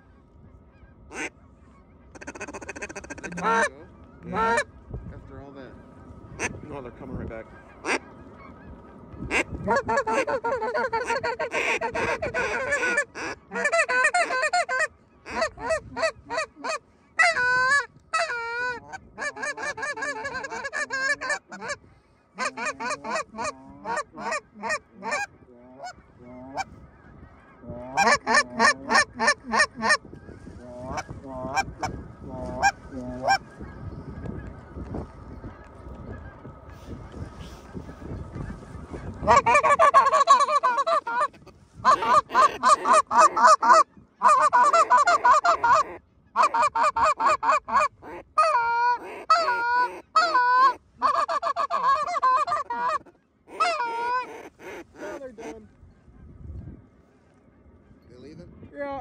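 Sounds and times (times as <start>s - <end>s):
geese honking and clucking: 0.0s - 59.0s.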